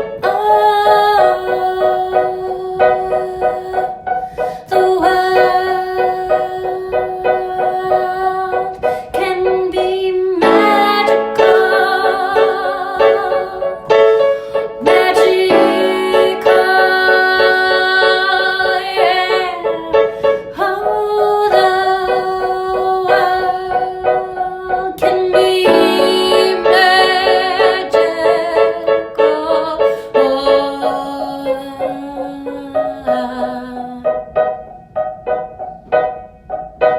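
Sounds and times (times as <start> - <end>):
piano chords ringing: 0.0 - 36.9.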